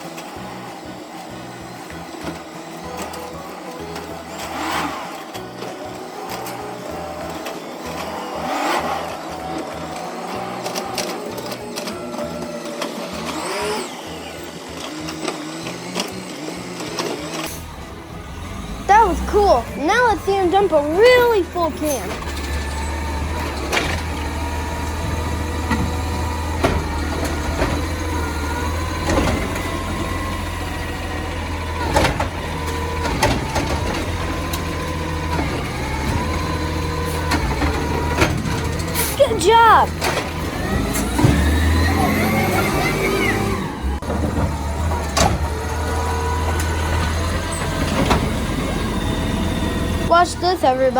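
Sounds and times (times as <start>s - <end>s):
sped-up truck engine and hydraulics: 0.0s - 50.9s.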